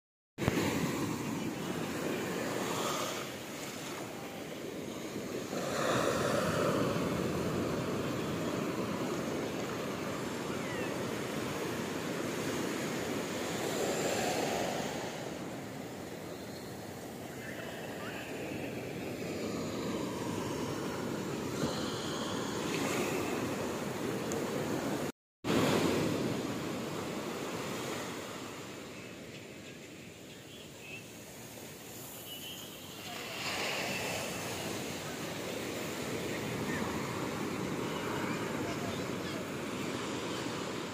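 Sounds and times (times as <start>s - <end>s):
ocean waves breaking on beach: 0.4s - 40.9s.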